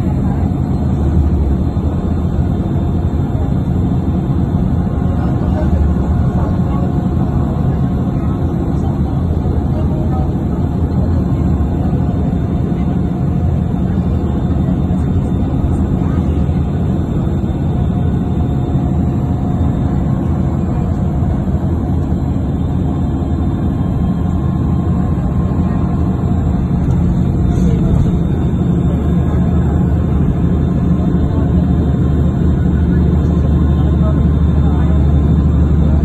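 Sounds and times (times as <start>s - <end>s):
ferry engine drone: 0.0s - 36.0s.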